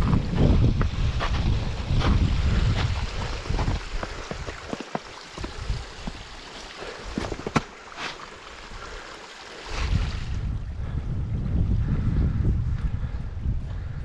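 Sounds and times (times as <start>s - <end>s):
wind buffeting microphone: 0.0s - 7.9s, 9.6s - 14.0s.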